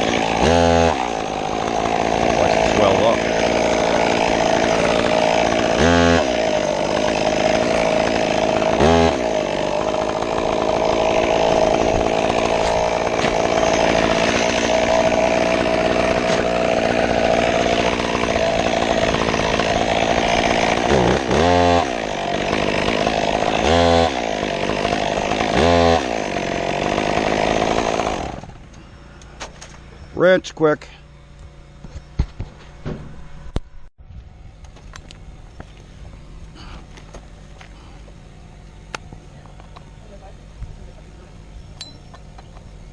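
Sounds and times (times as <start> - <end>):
chainsaw cutting wood: 0.0 - 29.9, 34.6 - 42.9.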